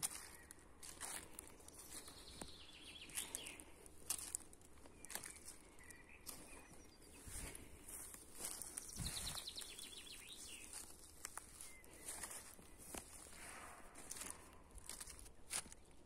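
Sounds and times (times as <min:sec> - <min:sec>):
faint bird song: 0:00.0 - 0:16.0
footsteps crunching on dry leaves: 0:00.0 - 0:16.0.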